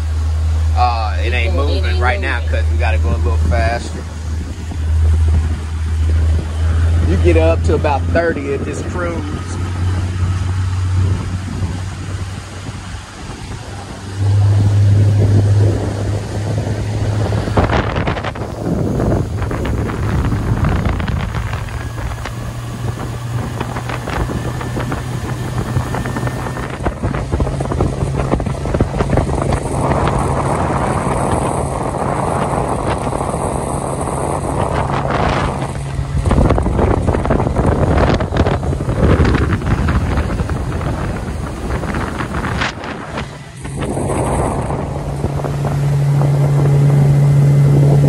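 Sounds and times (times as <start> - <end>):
outboard motor humming: 0.0 - 48.0
water rushing past hull: 0.0 - 48.0
wind noise on microphone: 0.0 - 48.0.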